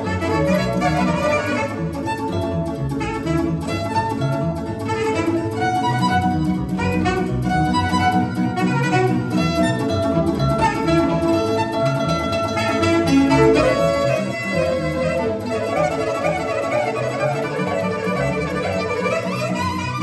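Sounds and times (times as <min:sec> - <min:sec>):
clarinet melody: 0:00.0 - 0:20.0
violin melody: 0:00.0 - 0:20.0.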